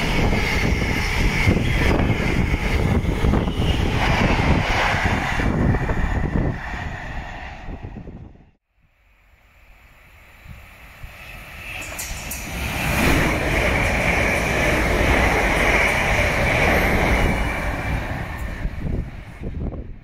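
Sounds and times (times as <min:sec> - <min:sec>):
train wheels rushing on rail: 0:00.0 - 0:08.1, 0:09.8 - 0:20.0
high train whine: 0:00.0 - 0:20.0.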